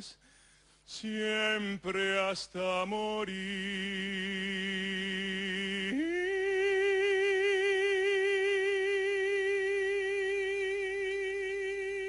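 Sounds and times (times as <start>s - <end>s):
male operatic tenor singing: 0.9s - 12.0s.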